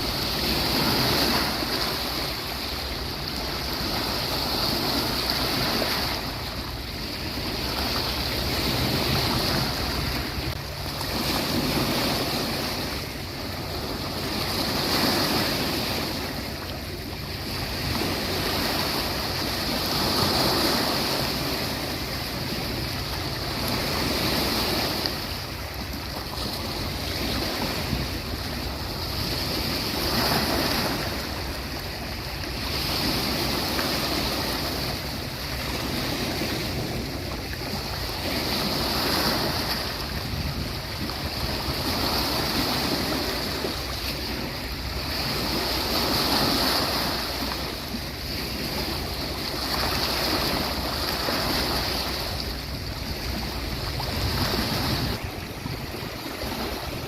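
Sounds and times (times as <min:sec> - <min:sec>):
waves washing onto beach: 0:00.0 - 0:57.0.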